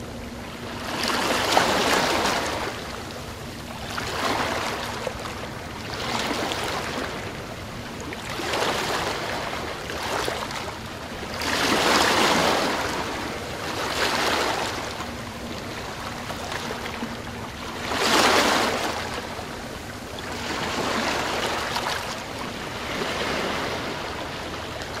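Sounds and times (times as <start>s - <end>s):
ocean waves washing in: 0.0s - 25.0s.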